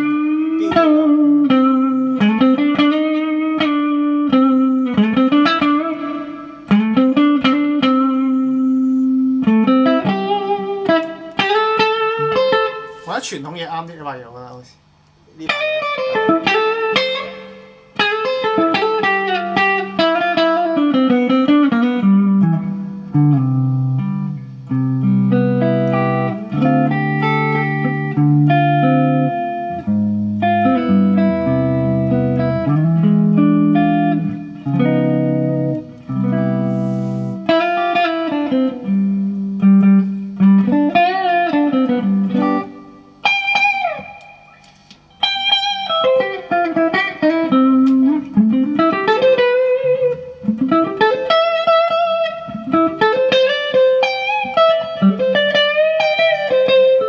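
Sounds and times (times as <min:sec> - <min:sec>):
electric guitar solo: 0:00.0 - 0:13.3, 0:15.3 - 0:57.0.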